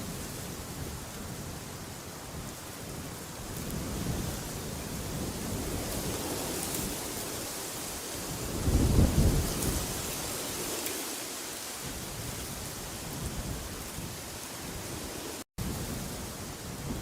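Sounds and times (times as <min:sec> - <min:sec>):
rushing wind: 0:00.0 - 0:17.0.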